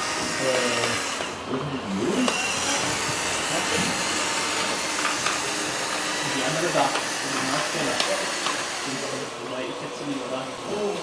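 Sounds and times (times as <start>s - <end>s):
crowd chatter: 0.0s - 11.0s
toy wheel loader whirring: 0.0s - 11.0s.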